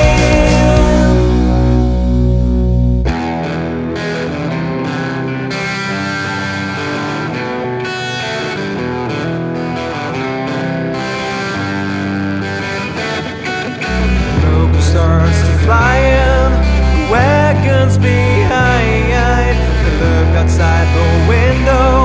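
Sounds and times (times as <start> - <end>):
alternative rock band playing: 0.0 - 22.0.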